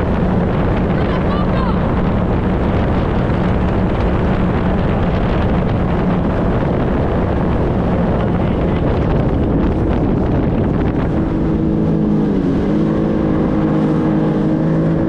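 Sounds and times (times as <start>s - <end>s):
jet ski engine drone: 0.0s - 15.0s
wind buffeting microphone: 0.0s - 15.0s.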